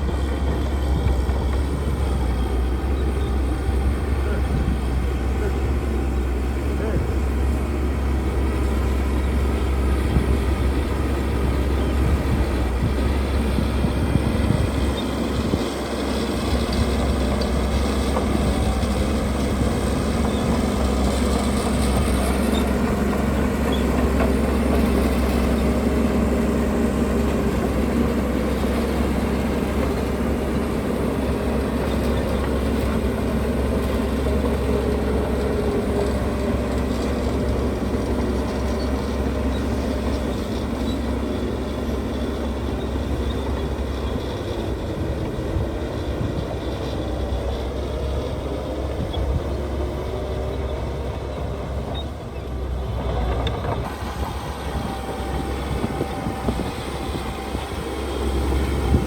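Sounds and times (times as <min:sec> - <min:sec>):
construction machinery diesel drone: 0:00.0 - 0:59.0.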